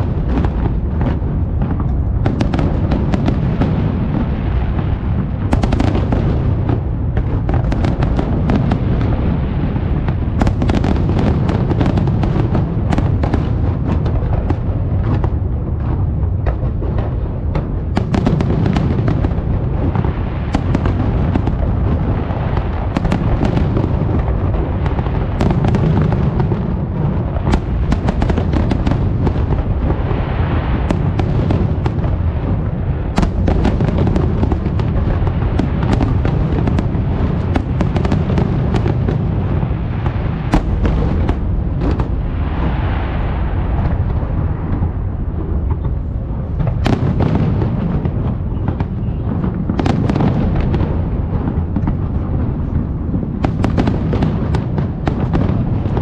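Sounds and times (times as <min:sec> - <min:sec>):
deep booms of fireworks: 0:00.0 - 0:56.0
firework cracks and crackles: 0:00.0 - 0:56.0.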